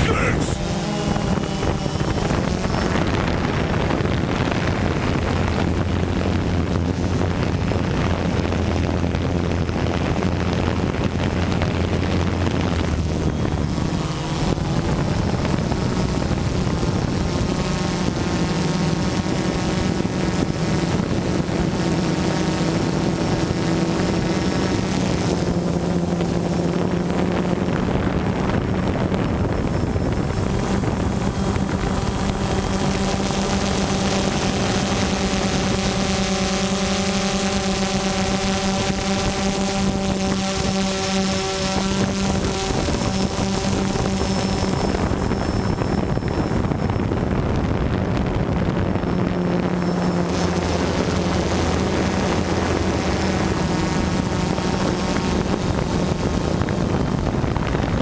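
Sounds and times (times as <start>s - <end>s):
drone propellers whirring: 0.0s - 58.0s
wind noise: 0.0s - 58.0s.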